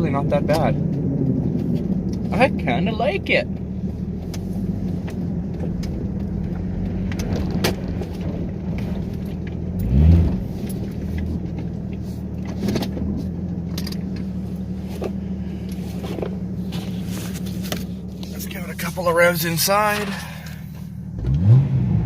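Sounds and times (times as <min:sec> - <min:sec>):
car engine drone inside cabin: 0:00.0 - 0:22.0.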